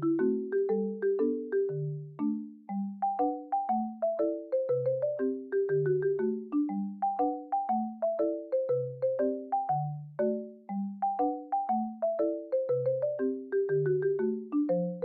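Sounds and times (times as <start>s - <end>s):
bouncy marimba melody: 0.0s - 15.0s.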